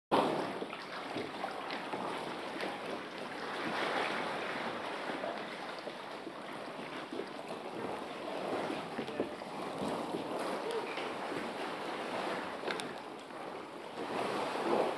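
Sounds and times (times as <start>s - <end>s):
seawater sloshing in a cave: 0.1s - 14.9s
small water splashes: 0.1s - 14.9s.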